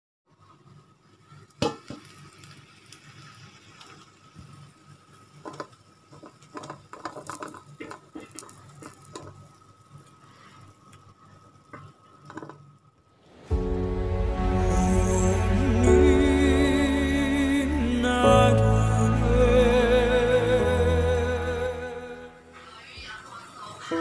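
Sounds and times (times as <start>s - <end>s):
faint steady hum: 0.3s - 24.0s.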